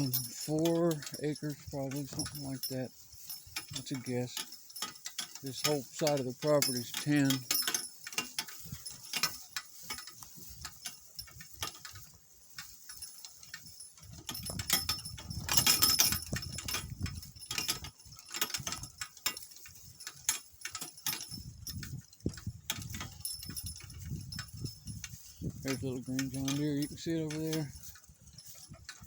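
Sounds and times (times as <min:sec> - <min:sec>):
cart rumble: 0:00.0 - 0:29.0
harness and cart clinking: 0:00.0 - 0:29.0.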